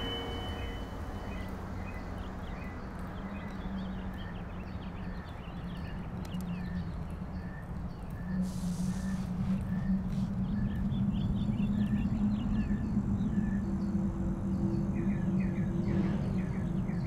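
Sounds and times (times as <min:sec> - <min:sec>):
steady low hum: 0:00.0 - 0:05.7, 0:06.6 - 0:17.0
birds chirping faintly: 0:00.0 - 0:17.0.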